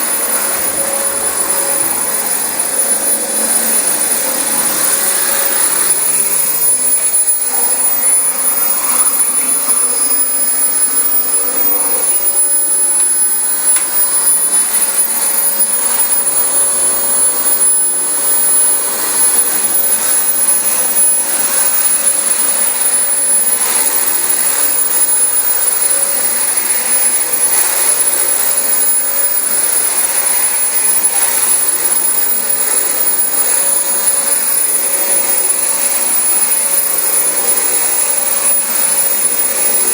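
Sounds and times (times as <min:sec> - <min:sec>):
vacuum cleaner running over carpet: 0:00.0 - 0:39.9.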